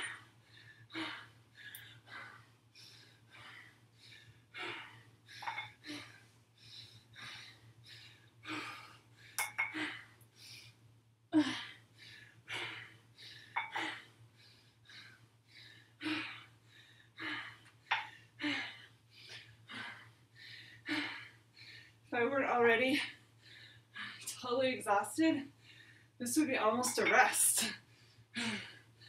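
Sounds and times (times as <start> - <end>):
woman breathing heavily: 0.0 - 22.1, 22.9 - 24.4, 25.5 - 26.2, 27.6 - 29.0.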